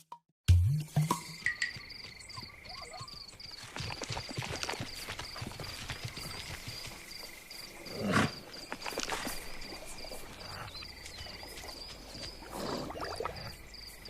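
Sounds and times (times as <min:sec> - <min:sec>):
crickets chirping: 0:01.0 - 0:14.0.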